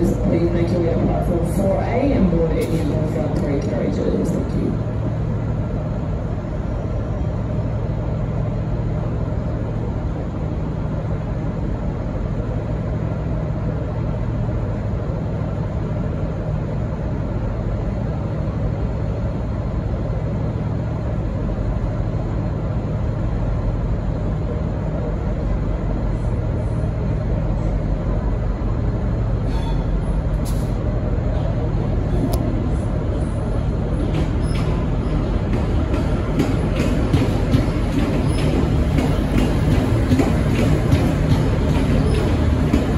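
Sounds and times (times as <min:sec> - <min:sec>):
diesel locomotive idling: 0:00.0 - 0:42.9.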